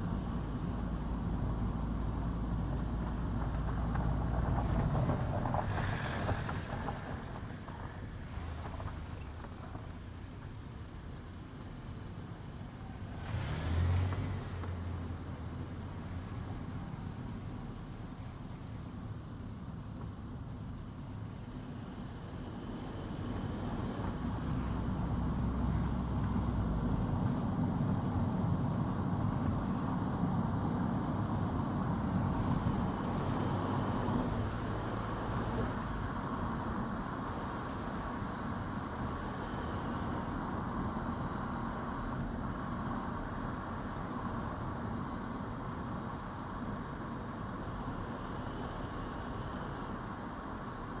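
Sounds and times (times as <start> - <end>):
car engine and tyre noise: 0.0 - 51.0.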